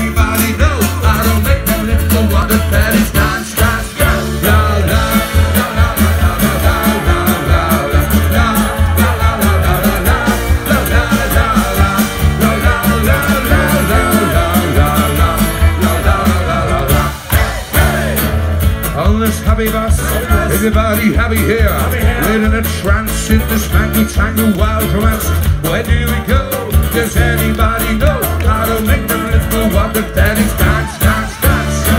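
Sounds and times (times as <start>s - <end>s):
folk-rock band playing: 0.0s - 31.9s.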